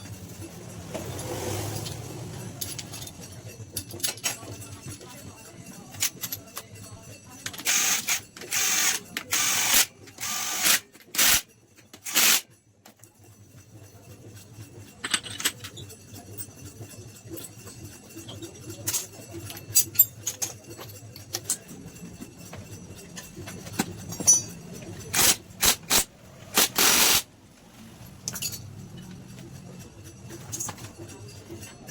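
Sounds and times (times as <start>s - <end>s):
tools clinking on engine parts: 0.0s - 27.3s, 28.0s - 31.9s.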